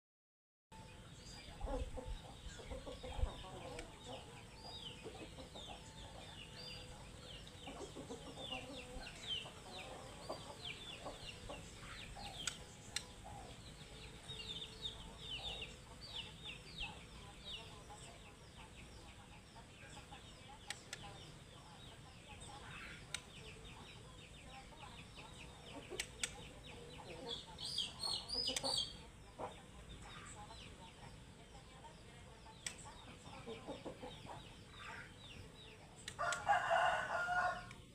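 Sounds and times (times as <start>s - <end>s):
bird chirping: 0.7s - 37.9s
chickens clucking: 1.1s - 37.9s.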